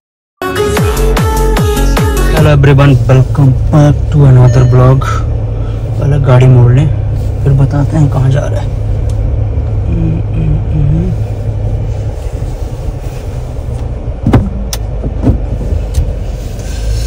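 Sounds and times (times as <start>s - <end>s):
car engine rumble: 0.4s - 17.0s
road noise inside car: 0.5s - 17.0s.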